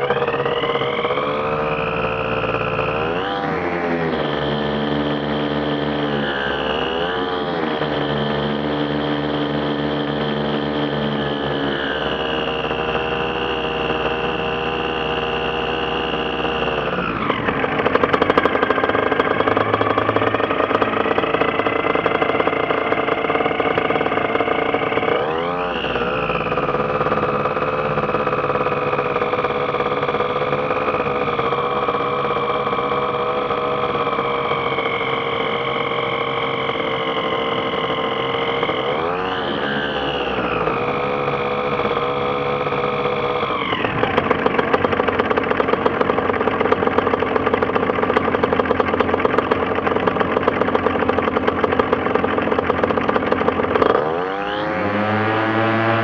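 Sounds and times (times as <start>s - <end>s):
light aircraft engine running: 0.0s - 56.0s.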